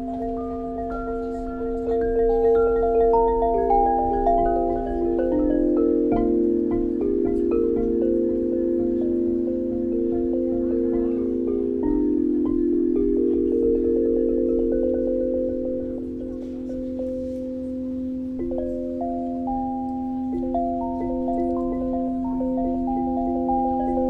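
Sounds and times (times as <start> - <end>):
chime-like tones: 0.0 - 24.0.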